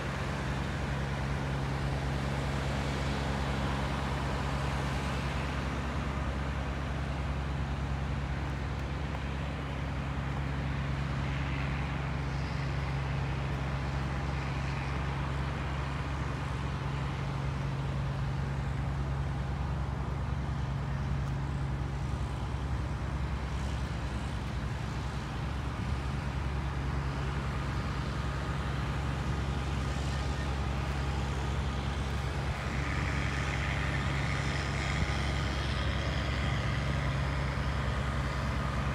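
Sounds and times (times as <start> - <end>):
large engine droning: 0.0 - 38.9.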